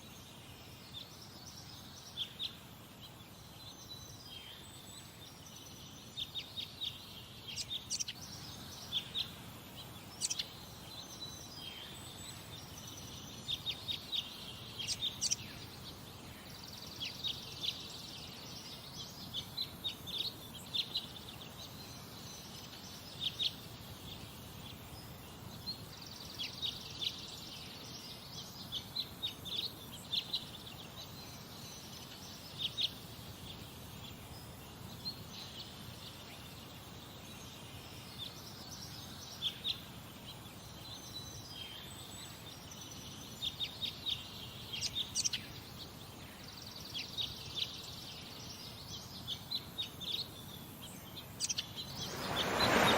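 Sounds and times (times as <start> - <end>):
low background hiss: 0.0 - 52.9
songbirds chirping: 0.0 - 52.9.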